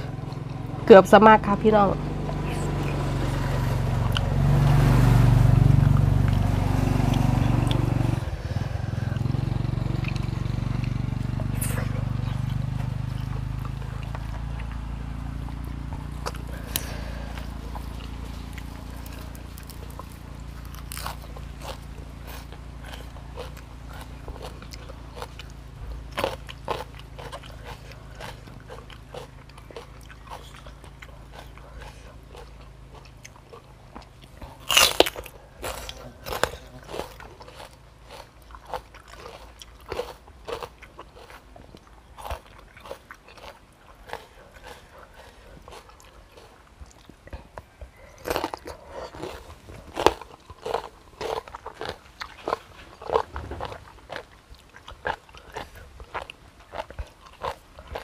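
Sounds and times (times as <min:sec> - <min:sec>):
person chewing and crunching: 0:00.0 - 0:58.0.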